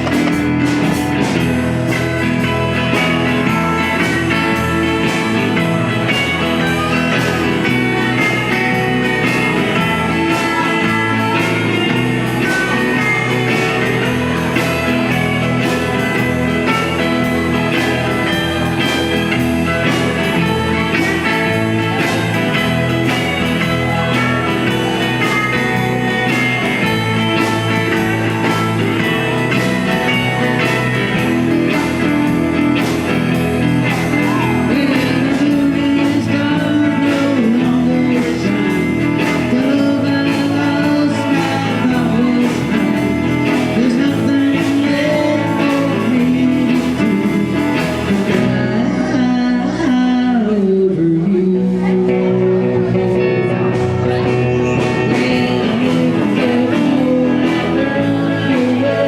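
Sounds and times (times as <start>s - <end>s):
drum beat: 0.0s - 48.6s
electric guitar: 0.0s - 59.0s
person singing: 0.0s - 59.0s.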